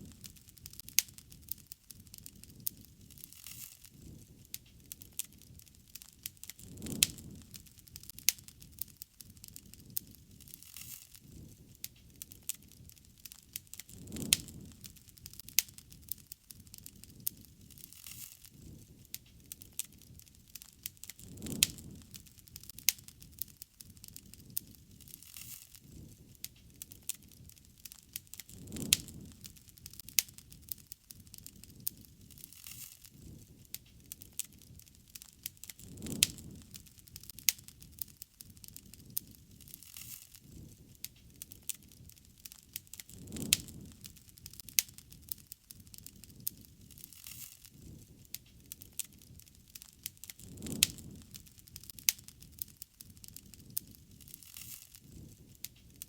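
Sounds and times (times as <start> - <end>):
low rush of burning: 0.0 - 56.0
wood fire crackling: 0.0 - 56.0.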